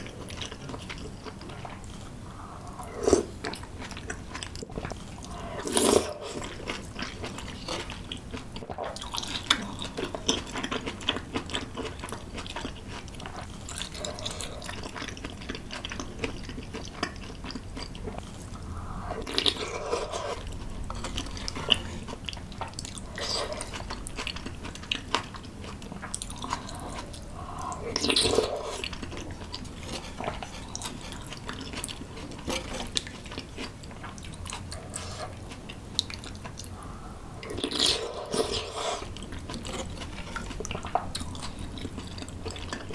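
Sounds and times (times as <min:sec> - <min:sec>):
chewing and crunching food: 0:00.0 - 0:42.9.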